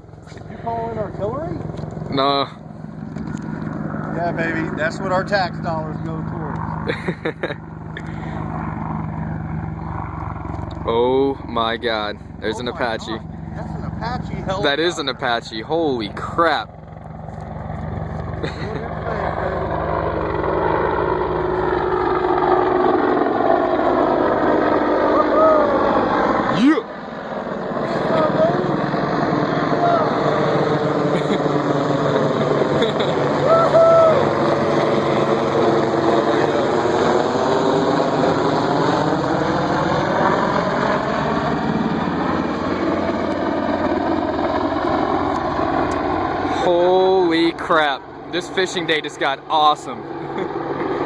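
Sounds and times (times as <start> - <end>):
helicopter engine noise: 0.0 - 51.0
helicopter rotor beating: 0.0 - 51.0.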